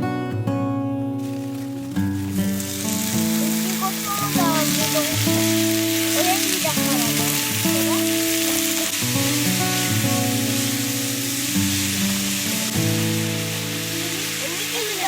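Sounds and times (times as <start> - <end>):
background music with held notes: 0.0 - 15.0
food sizzling in a pan: 0.5 - 15.0.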